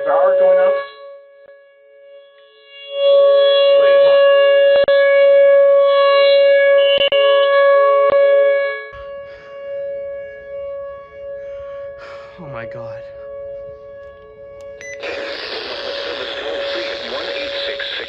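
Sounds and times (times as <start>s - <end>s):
tornado warning siren: 0.0s - 18.0s.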